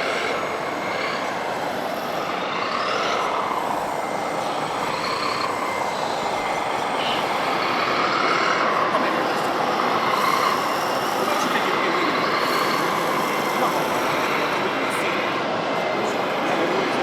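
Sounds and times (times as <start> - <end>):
model truck motors whining: 0.0 - 17.0.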